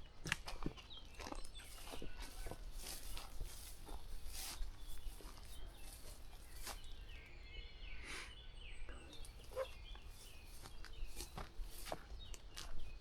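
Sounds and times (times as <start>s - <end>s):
faint birdsong: 0.0s - 13.0s
footsteps through wet grass: 0.2s - 7.3s, 9.2s - 13.0s.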